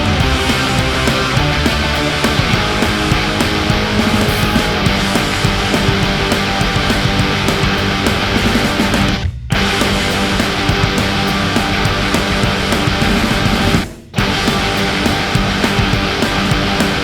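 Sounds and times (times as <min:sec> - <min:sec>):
loud rock music with drums: 0:00.0 - 0:17.0.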